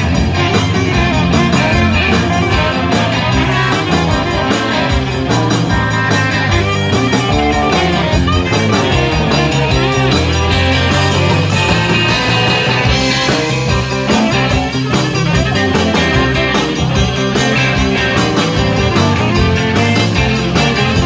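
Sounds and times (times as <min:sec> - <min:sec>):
drum kit cymbal beat: 0:00.0 - 0:21.0
rock band playing: 0:00.0 - 0:21.0.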